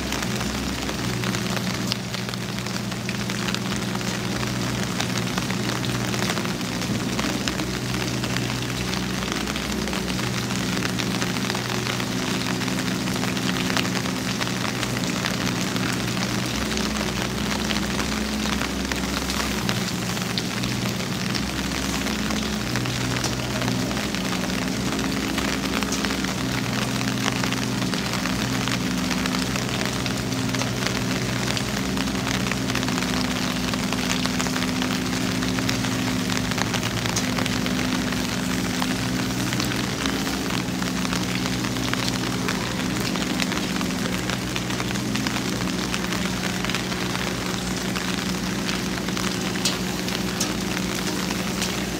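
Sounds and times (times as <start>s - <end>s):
low steady hum: 0.0s - 51.9s
rain falling: 0.0s - 51.9s.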